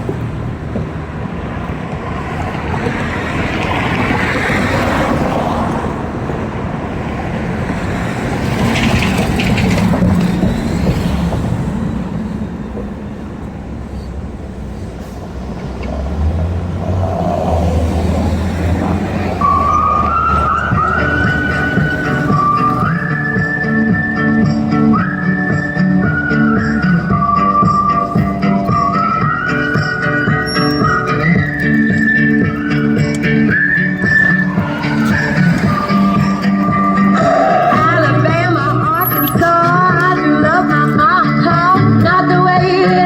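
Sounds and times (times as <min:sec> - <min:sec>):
low engine rumble: 0:00.0 - 0:43.0
passing traffic: 0:00.0 - 0:43.0
wind and road noise: 0:00.0 - 0:43.0.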